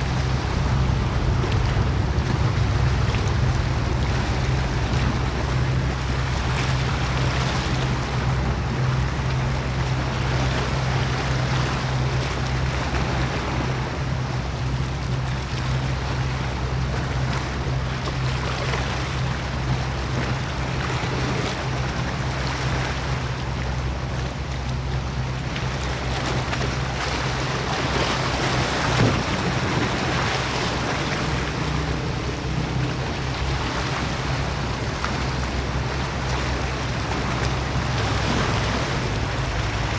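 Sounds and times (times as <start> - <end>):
rushing water: 0.0 - 39.9
ship engine drone: 0.0 - 39.9
wind: 0.0 - 39.9.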